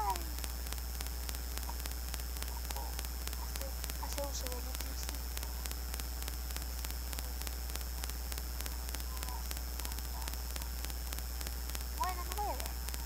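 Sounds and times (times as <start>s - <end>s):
electrical mains hum: 0.0s - 13.0s
static hiss: 0.0s - 13.0s.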